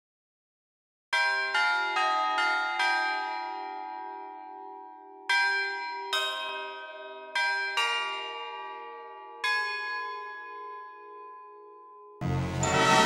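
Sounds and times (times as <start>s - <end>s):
bells struck: 1.2s - 13.0s.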